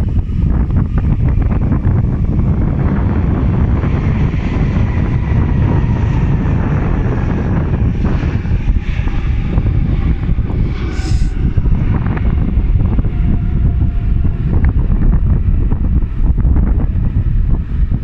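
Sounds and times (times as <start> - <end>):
jet engines rumble and whine: 0.0 - 18.0
wind buffeting microphone: 0.0 - 18.0.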